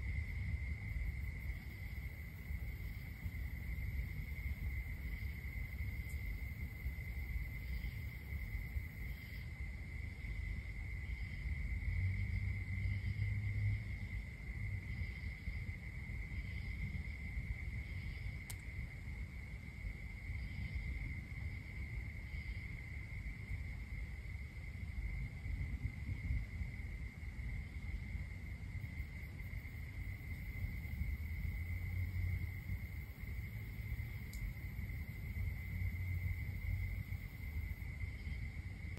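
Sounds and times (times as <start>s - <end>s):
cricket trilling: 0.0s - 38.9s
faint cricket chirps: 0.0s - 38.9s.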